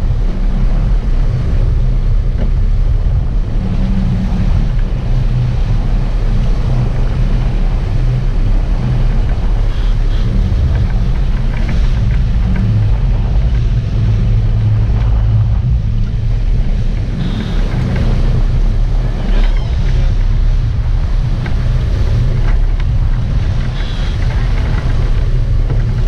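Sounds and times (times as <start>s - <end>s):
boat engines humming: 0.0s - 26.0s
water churning around hull: 0.0s - 26.0s
wind buffeting microphone: 0.0s - 26.0s.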